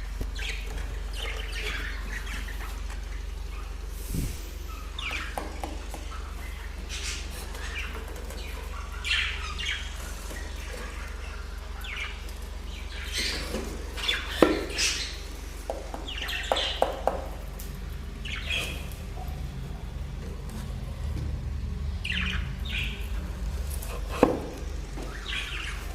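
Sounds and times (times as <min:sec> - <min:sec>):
low hum: 0:00.0 - 0:25.9
budgerigars chirping: 0:00.3 - 0:19.4, 0:22.0 - 0:25.9.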